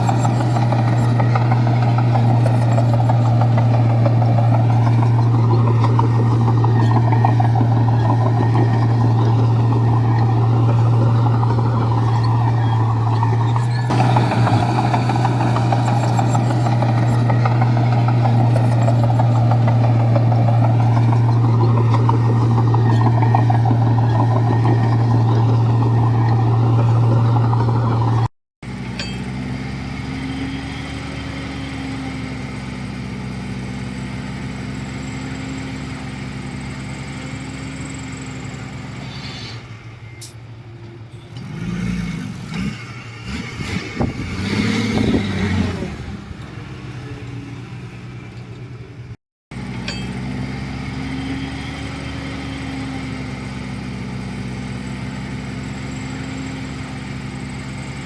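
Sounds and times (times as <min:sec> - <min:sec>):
diesel machine revving: 0:00.0 - 0:58.0
heavy diesel engine under load: 0:00.0 - 0:58.0.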